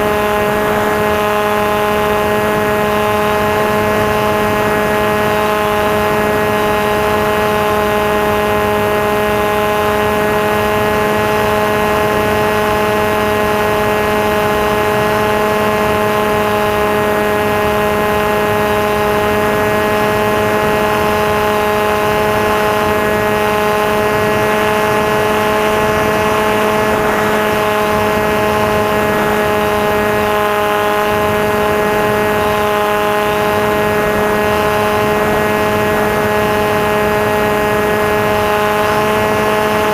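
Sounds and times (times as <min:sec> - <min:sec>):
electric motor and propeller drone: 0:00.0 - 0:39.9.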